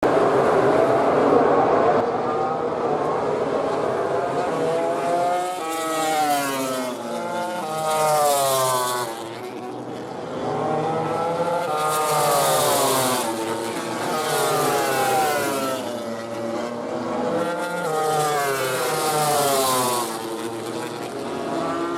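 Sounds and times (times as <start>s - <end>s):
racing motorcycle engines revving: 0.0s - 21.9s.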